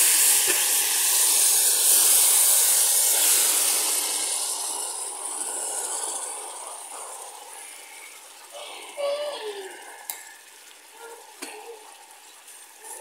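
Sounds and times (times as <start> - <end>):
hot caramel hissing violently: 0.0 - 13.0.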